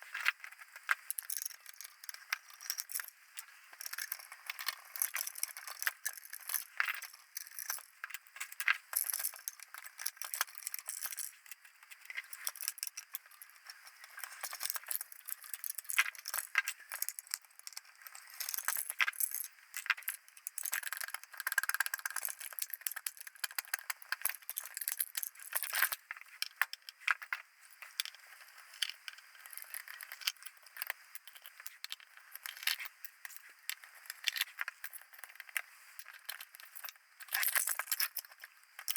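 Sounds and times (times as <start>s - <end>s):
small metal parts clinking: 0.8s - 3.1s, 3.7s - 13.5s, 14.2s - 27.0s, 28.8s - 38.9s.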